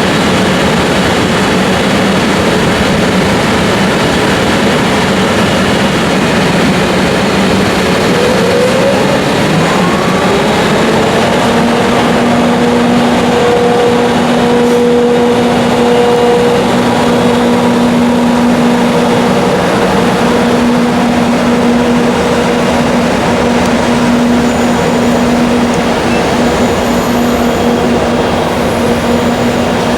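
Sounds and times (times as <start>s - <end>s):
locomotive cooling blowers rushing: 0.0s - 29.9s.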